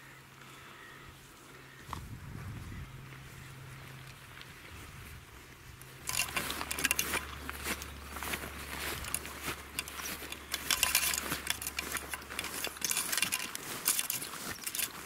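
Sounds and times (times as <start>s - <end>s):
footsteps through long grass: 0.4s - 15.0s.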